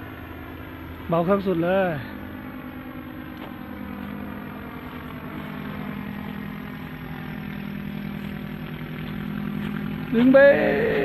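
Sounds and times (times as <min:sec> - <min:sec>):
paramotor engine humming: 0:00.0 - 0:11.0.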